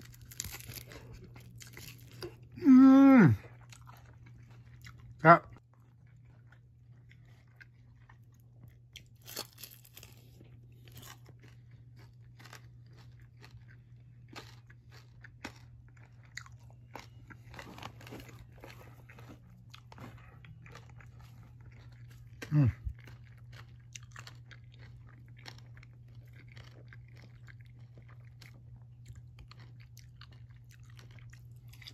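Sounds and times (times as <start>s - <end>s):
person chewing crispy food: 0.0s - 31.9s
steady low hum: 0.0s - 31.9s.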